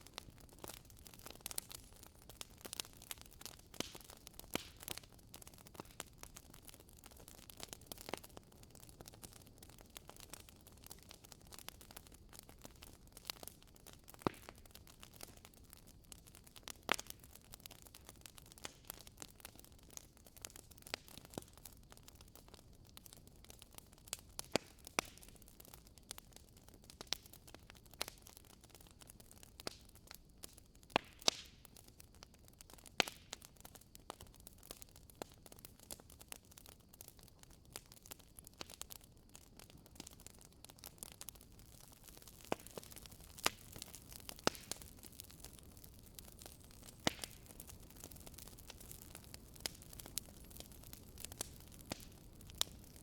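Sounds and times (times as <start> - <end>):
bonfire crackling and popping: 0.0 - 53.0
soft steady hiss: 0.0 - 53.0.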